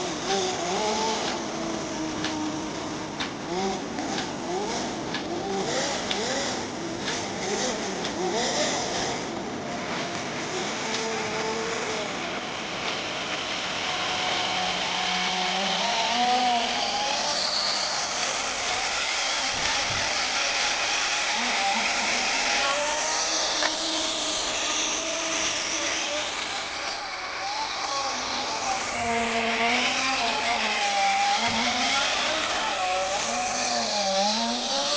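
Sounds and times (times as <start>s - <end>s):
small nitro engine running: 0.0s - 34.9s.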